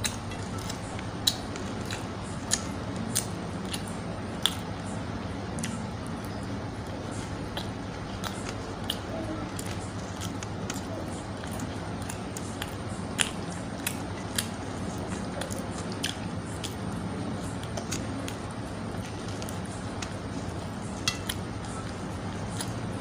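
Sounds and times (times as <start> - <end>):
chewing and mouth smacks: 0.0 - 4.7, 5.6 - 23.0
steady low hum: 0.0 - 23.0.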